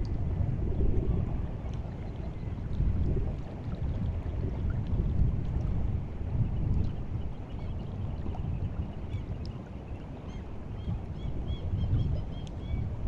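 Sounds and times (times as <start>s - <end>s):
tide water lapping at shore: 0.0s - 13.0s.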